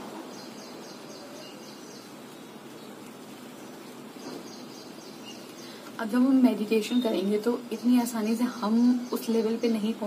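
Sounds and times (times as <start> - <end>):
faint background hiss: 0.0 - 10.0
small birds twittering: 0.0 - 10.0.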